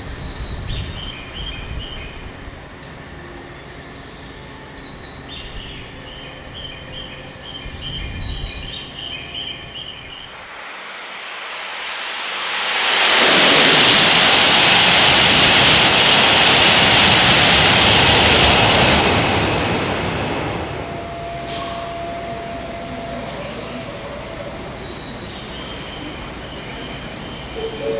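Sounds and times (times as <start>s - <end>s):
high-speed train passing: 0.0s - 27.9s.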